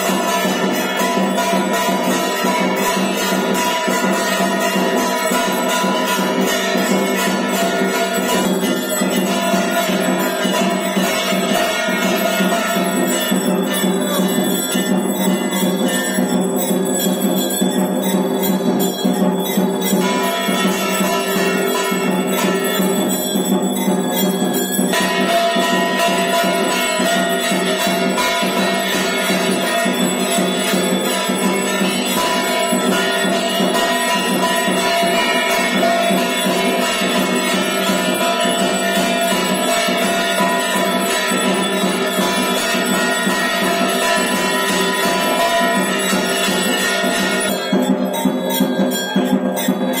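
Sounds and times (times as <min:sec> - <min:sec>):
temple bells and percussion ringing: 0:00.0 - 0:50.0.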